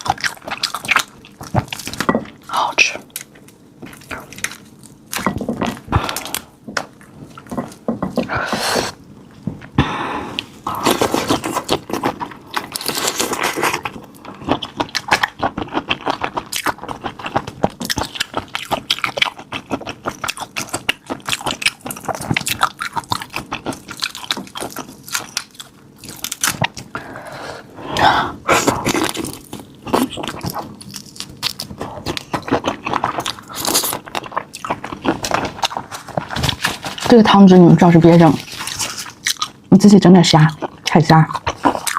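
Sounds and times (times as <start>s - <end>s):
crunchy chewing of prawn shells: 0.0s - 9.0s, 10.3s - 27.1s, 28.4s - 41.9s.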